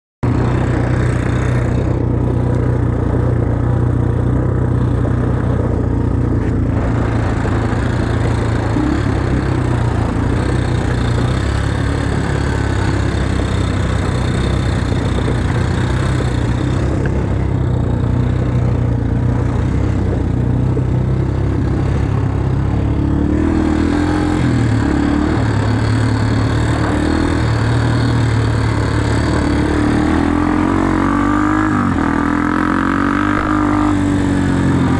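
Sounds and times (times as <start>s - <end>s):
quad bike engine running: 0.2s - 34.9s.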